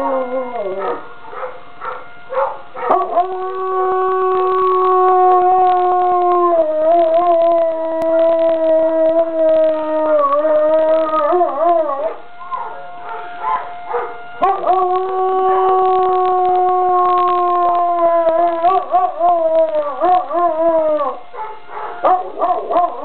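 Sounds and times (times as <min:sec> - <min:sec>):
young dog howling: 0:00.0 - 0:01.5, 0:02.3 - 0:12.8, 0:13.4 - 0:23.0.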